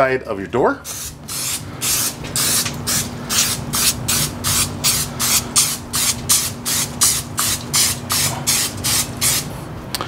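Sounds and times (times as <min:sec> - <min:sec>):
aerosol spray hissing: 0:00.9 - 0:09.5.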